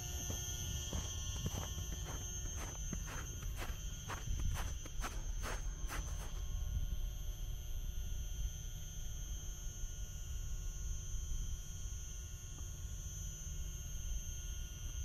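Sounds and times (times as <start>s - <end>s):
steady high-pitched whine: 0.0s - 15.0s.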